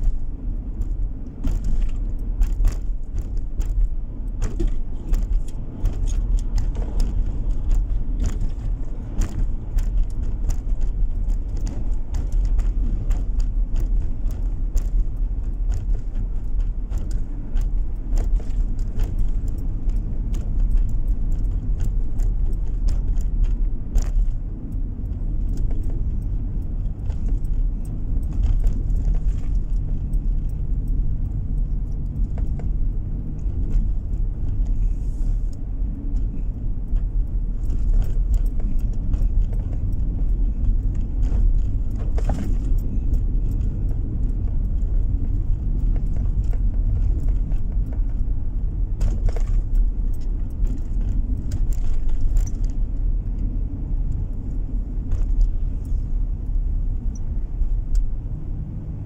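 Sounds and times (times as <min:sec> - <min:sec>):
small clicks and rattles: 0:00.0 - 0:58.4
road and engine rumble: 0:00.0 - 0:59.0.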